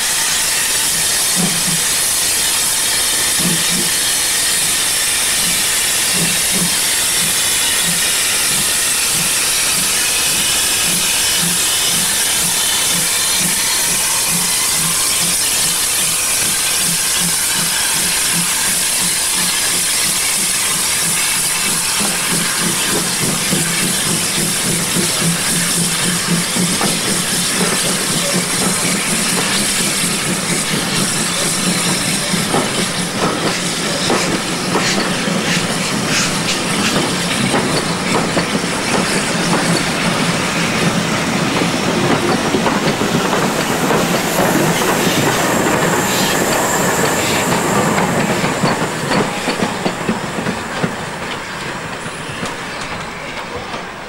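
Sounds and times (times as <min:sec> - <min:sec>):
steam locomotive hissing: 0:00.0 - 0:54.0
train wheels clicking over rail joints: 0:00.0 - 0:54.0.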